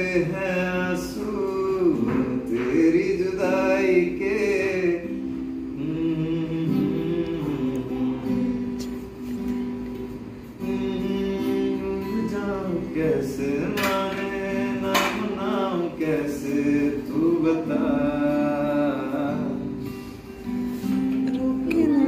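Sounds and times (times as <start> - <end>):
person singing: 0.0 - 9.1, 10.6 - 19.8, 21.1 - 22.0
acoustic guitar strumming: 0.0 - 22.0.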